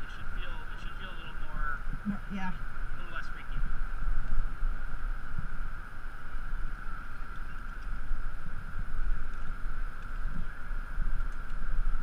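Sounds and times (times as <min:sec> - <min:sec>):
steady high hiss: 0:00.0 - 0:12.0
wind buffeting microphone: 0:00.0 - 0:12.0.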